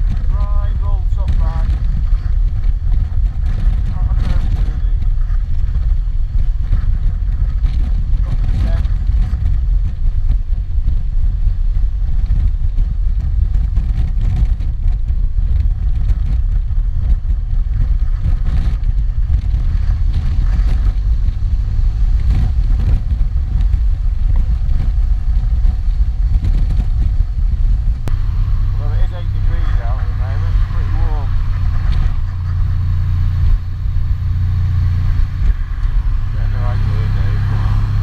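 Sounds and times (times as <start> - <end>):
motorcycle engine and road noise: 0.0 - 38.0
wind buffeting microphone: 0.0 - 38.0.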